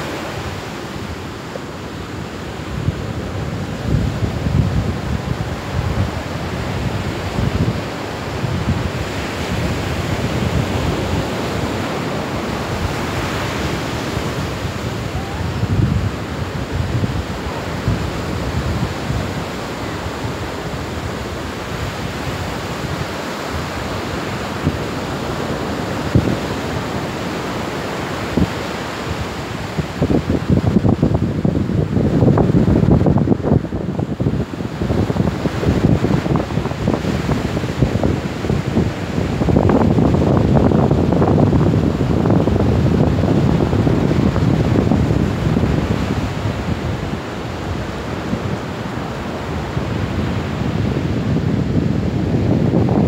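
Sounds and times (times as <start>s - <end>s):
waves breaking on beach: 0.0s - 53.0s
wind buffeting microphone: 0.0s - 53.0s.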